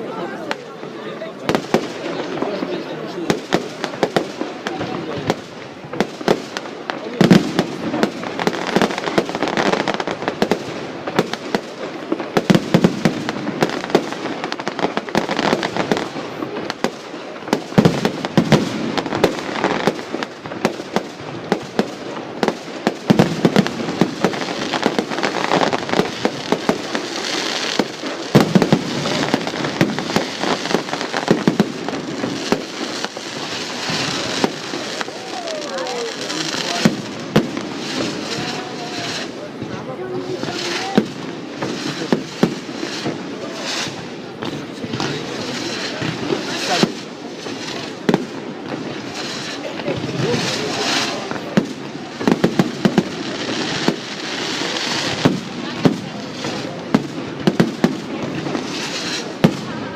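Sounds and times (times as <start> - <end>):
fireworks bangs and crackling: 0.0 - 59.9
heavy fireworks booms: 0.0 - 59.9.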